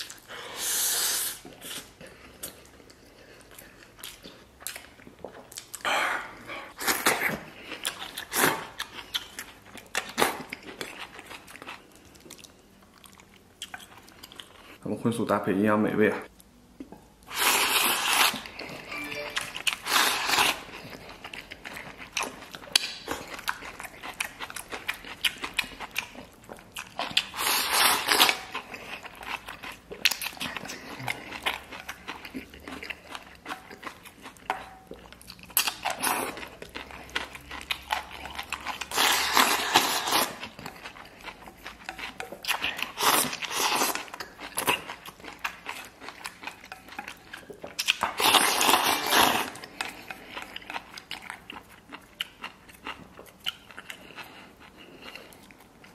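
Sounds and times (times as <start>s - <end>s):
chewing: 1.4s - 14.8s, 16.4s - 55.9s.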